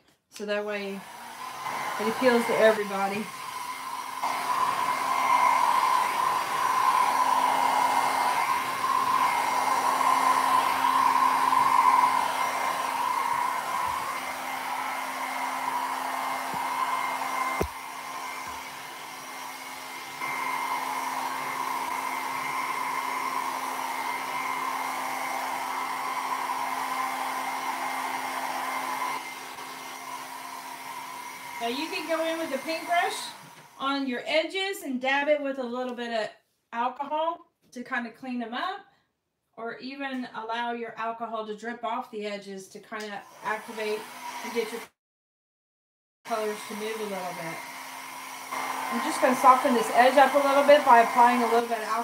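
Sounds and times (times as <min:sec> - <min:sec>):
hair dryer running: 0:00.4 - 0:34.2, 0:42.9 - 0:45.0, 0:46.3 - 0:52.0.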